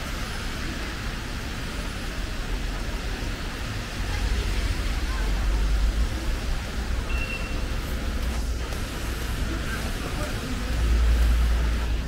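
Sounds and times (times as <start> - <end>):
rain hissing: 0.0 - 12.0
traffic on wet road: 0.0 - 12.0.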